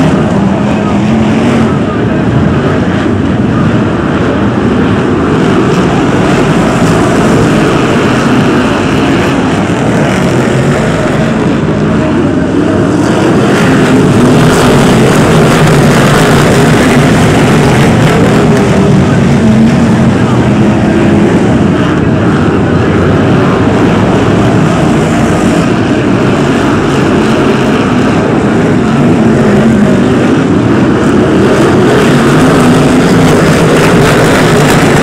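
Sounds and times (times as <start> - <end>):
racing car engines roaring: 0.0 - 35.0.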